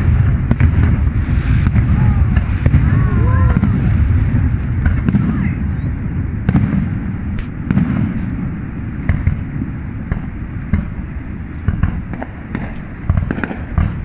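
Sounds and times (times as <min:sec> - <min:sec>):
fireworks bangs and crackles: 0:00.0 - 0:14.0
low rumble: 0:00.0 - 0:14.0.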